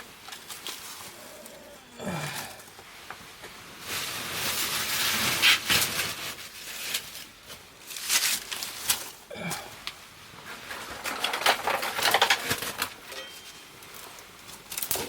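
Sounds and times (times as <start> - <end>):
firewood crackling and popping: 2.2 - 15.0.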